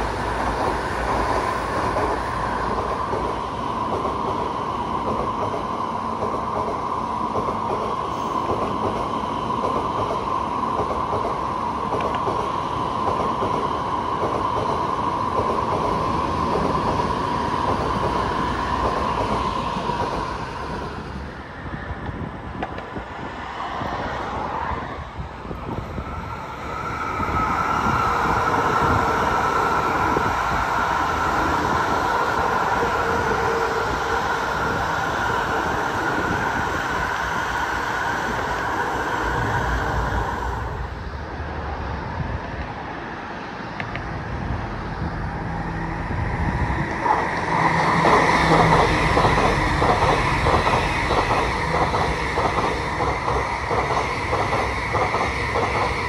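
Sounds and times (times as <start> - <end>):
high train whine: 0.0 - 56.0
train rushing on rails: 0.0 - 56.0.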